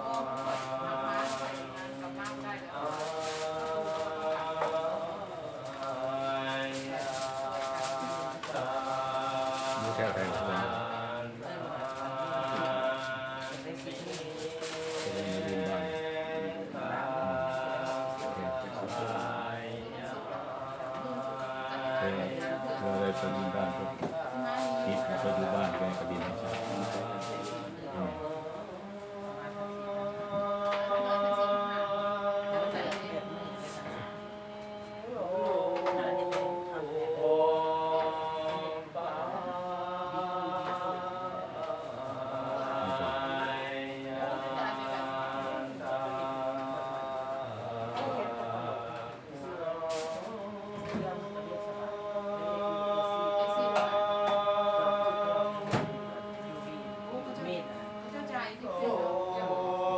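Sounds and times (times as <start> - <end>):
group of voices chanting: 2.9 - 59.9.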